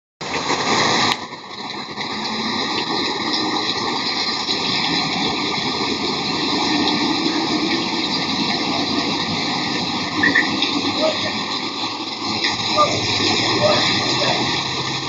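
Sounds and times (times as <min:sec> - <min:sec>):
heavy rain falling: 0:00.2 - 0:15.0.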